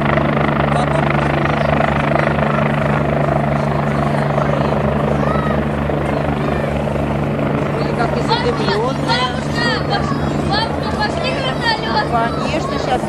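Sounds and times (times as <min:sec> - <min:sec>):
helicopter rotor beat: 0:00.0 - 0:13.0
turbine low hum: 0:00.0 - 0:13.0.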